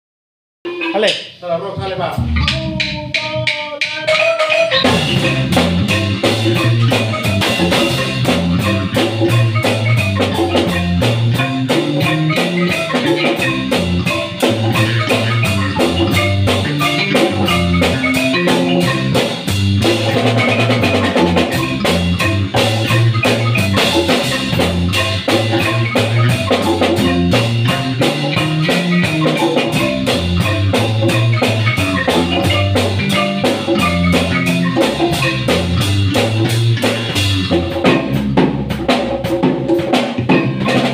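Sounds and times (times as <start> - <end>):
congas: 0.6 - 40.9
drum kit beat: 0.6 - 40.9
marimba struck with mallets: 0.7 - 1.4, 2.1 - 40.9.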